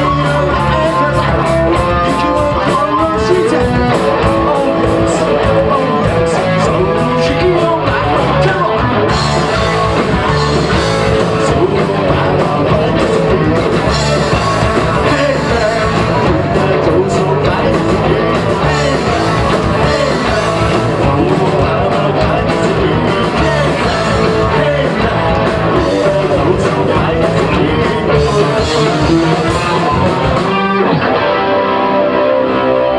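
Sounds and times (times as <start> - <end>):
person singing: 0.0 - 32.9
punk rock band playing: 0.0 - 32.9.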